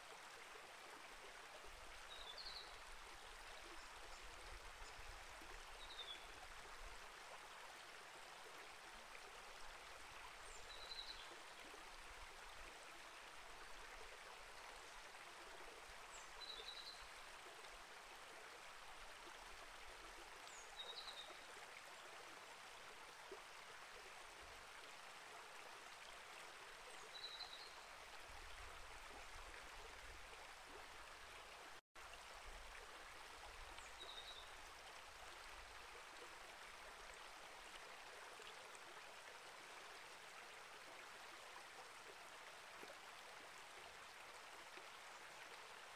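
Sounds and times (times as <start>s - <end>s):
creek flowing: 0.0s - 45.9s.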